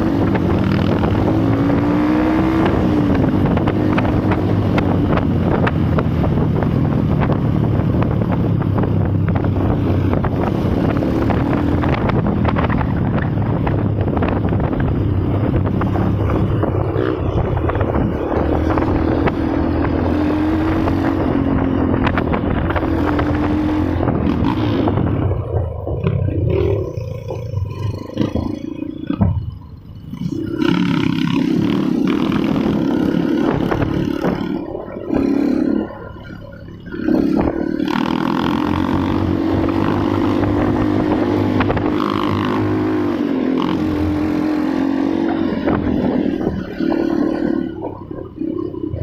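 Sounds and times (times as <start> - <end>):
vehicle engine running: 0.0 - 49.0
wind noise on microphone: 0.0 - 49.0.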